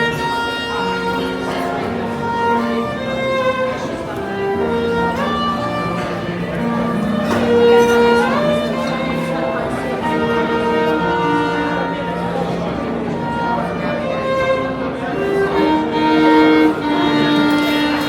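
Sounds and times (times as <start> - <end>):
violin melody: 0.0 - 18.0.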